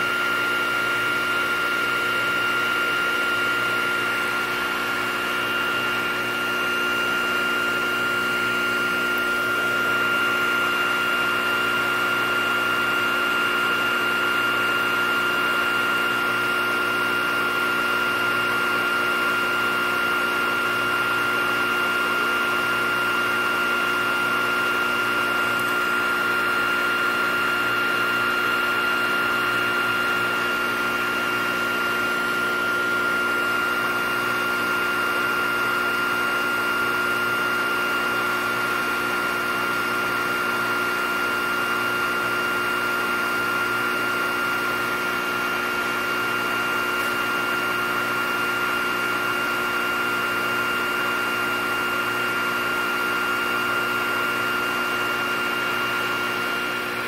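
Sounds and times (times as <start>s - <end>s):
hot air blower rushing: 0.0s - 57.0s.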